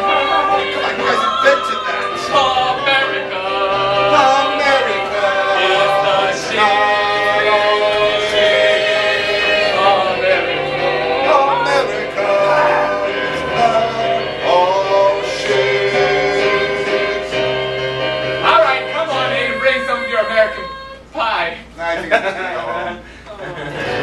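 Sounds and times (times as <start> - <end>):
choir singing held chords: 0.0 - 21.6.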